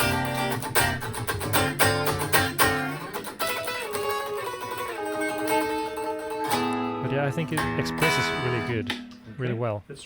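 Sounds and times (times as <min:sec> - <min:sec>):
clean electric guitar: 0:00.0 - 0:09.5.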